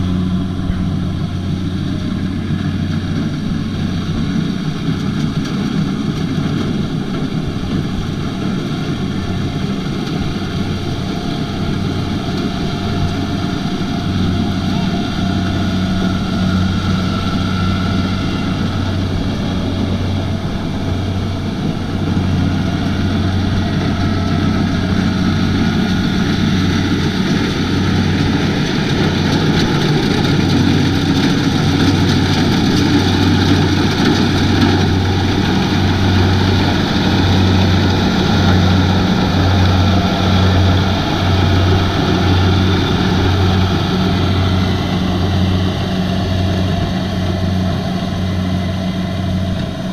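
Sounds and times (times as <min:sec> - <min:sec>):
combine harvester engine droning: 0:00.0 - 0:49.9
working machinery noise: 0:00.0 - 0:49.9.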